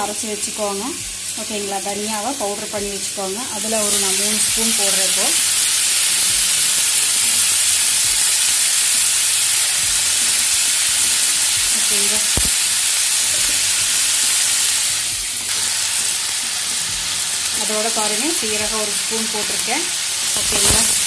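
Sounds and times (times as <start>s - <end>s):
shallots sizzling in hot oil: 0.0s - 21.0s.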